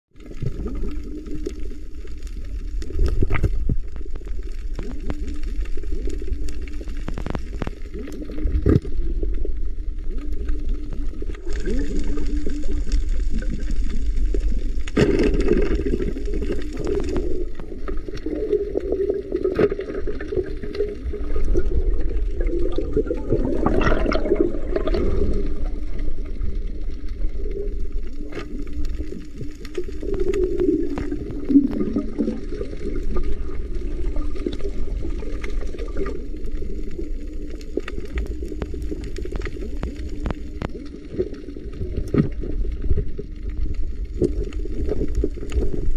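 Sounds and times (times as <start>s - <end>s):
water swirling and gurgling: 0.1s - 45.9s.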